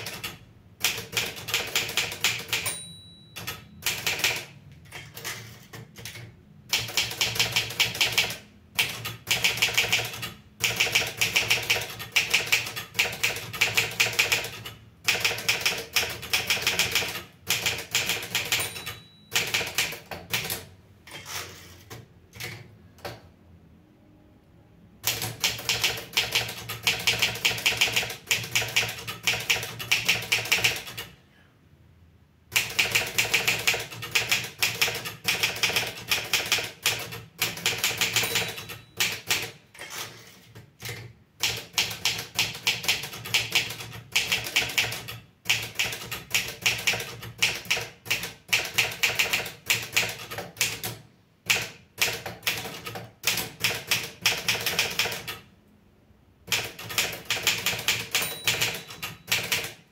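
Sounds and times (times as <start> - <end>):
typewriter keys clacking: 0.0 - 22.6, 25.1 - 31.1, 32.6 - 55.4, 56.5 - 59.9.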